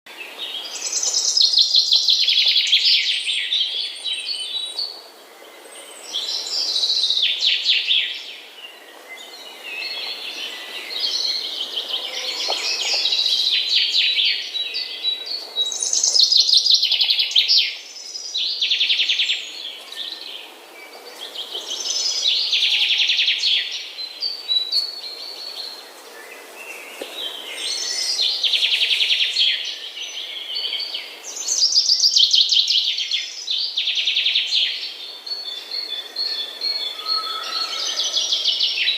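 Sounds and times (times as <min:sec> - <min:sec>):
songbirds trilling: 0:00.2 - 0:38.9.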